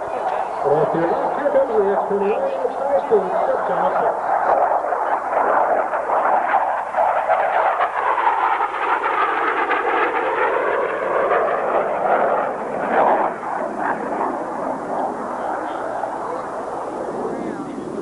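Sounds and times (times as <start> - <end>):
jet aircraft roar overhead: 0.0 - 18.0.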